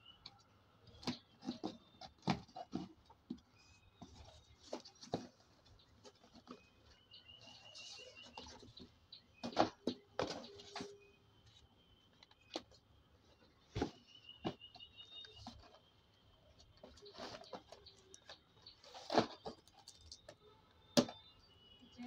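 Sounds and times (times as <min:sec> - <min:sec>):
bird chirping: 0:03.5 - 0:22.0.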